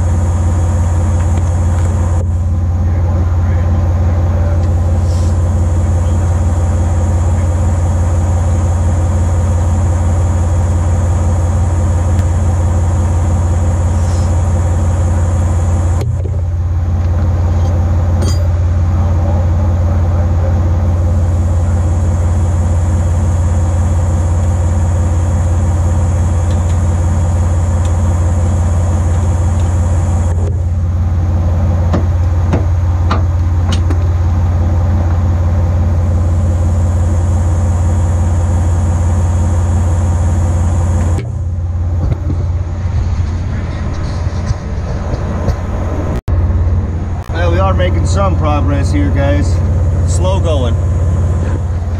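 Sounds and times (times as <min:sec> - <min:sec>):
engine idling hum: 0:00.0 - 0:51.9.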